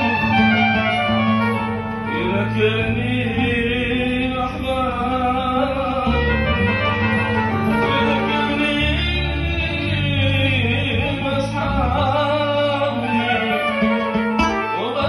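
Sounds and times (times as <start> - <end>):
person singing: 0.0 - 15.0
string instrument accompaniment: 0.0 - 15.0.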